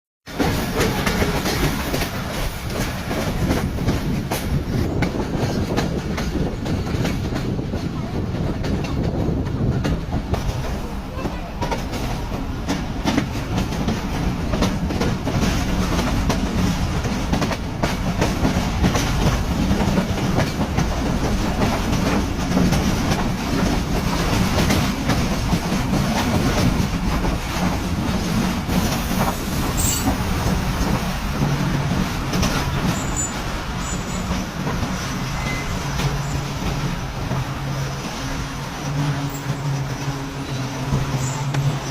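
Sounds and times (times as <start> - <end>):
train low hum: 0.2 - 41.9
train wheels clicking over rail joints: 0.3 - 41.9.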